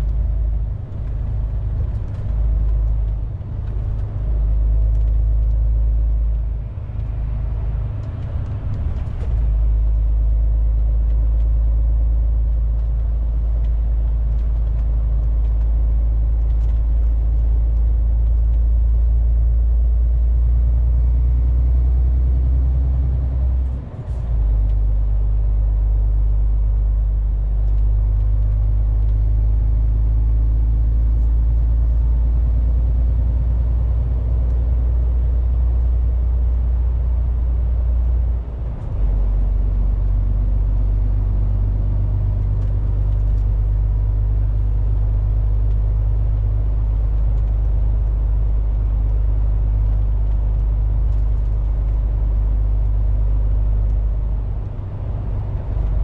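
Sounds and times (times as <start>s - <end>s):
truck engine drone in cab: 0.0s - 56.0s.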